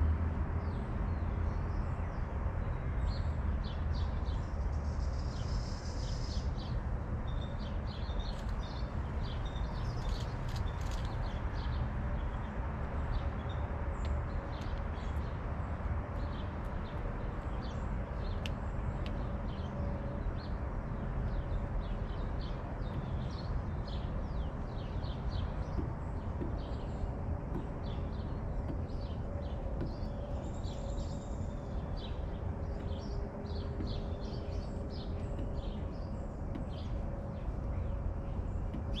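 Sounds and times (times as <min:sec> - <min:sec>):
small birds chirping: 0:03.1 - 0:39.0.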